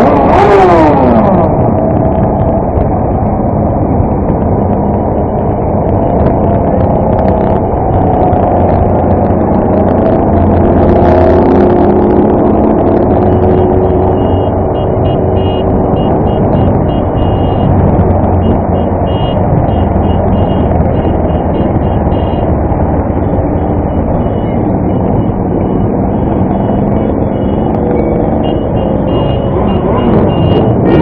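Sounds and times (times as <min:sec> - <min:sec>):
motorcycle engine running: 0:00.0 - 0:31.0
wind noise on microphone: 0:00.0 - 0:31.0.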